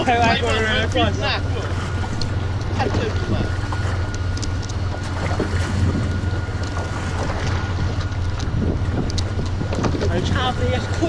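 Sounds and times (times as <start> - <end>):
boat engine droning: 0.0 - 11.0
wind buffeting microphone: 0.0 - 11.0.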